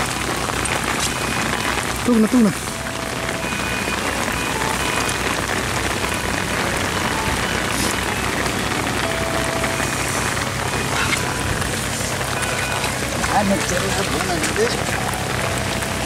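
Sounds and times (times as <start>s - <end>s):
rain falling on concrete: 0.0s - 16.0s.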